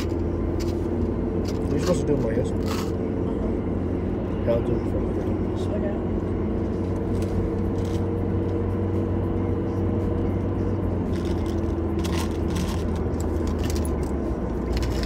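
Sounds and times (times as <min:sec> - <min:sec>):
car cabin engine and road hum: 0:00.0 - 0:15.0.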